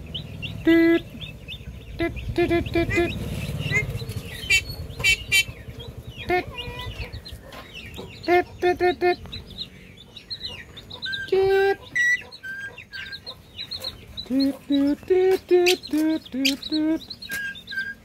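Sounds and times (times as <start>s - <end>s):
myna squawky clucking calls: 0.0s - 18.0s.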